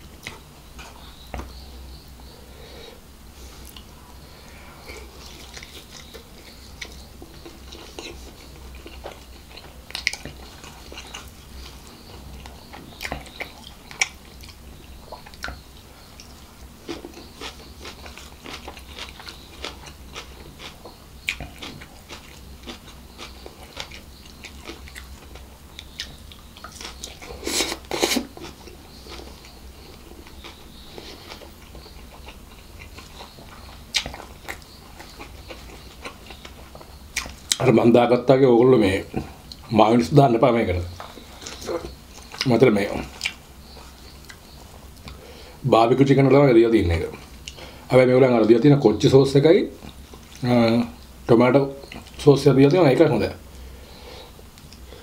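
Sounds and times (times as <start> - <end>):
man chewing food: 0.0 - 37.7, 39.1 - 39.7, 40.9 - 45.6, 47.0 - 47.9, 49.8 - 52.2, 53.4 - 55.0.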